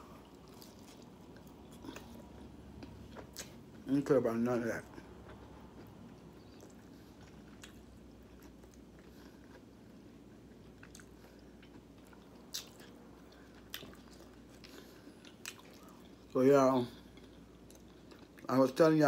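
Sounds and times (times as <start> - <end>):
person chewing food: 0.0 - 3.9, 4.8 - 18.5.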